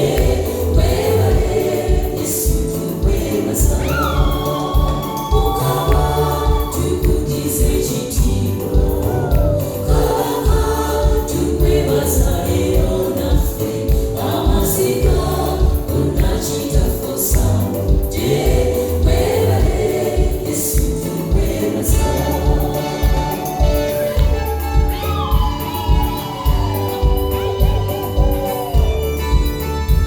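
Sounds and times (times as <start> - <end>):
driving bass beat: 0.0 - 30.0
gospel choir singing: 0.0 - 30.0.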